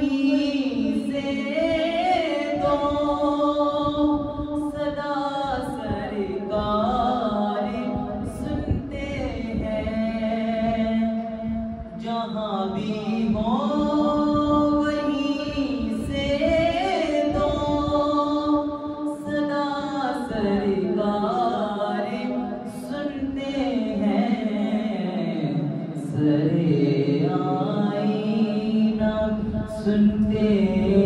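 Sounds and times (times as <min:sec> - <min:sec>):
boy singing devotional song: 0:00.0 - 0:31.0.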